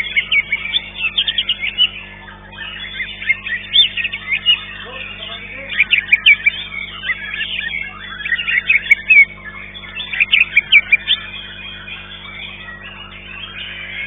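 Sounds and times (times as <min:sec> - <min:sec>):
bird whistling song: 0:00.0 - 0:14.0
songbirds chirping: 0:00.0 - 0:14.0.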